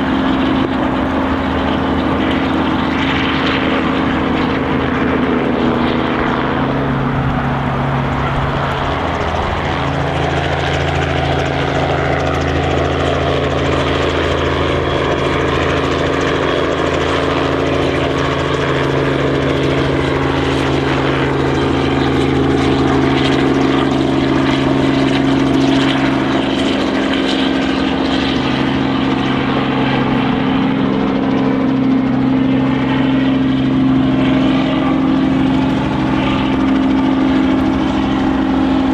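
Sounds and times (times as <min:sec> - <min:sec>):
heavy engine droning: 0:00.0 - 0:38.9.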